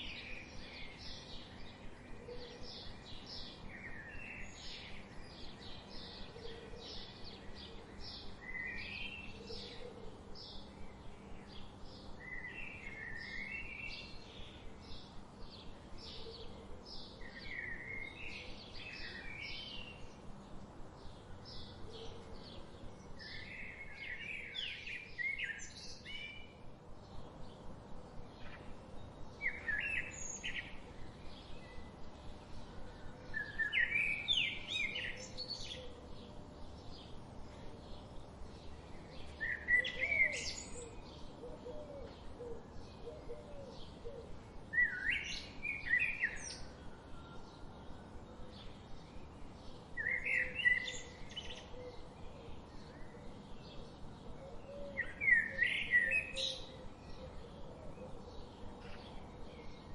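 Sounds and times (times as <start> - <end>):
soft background hiss: 0.0 - 59.9.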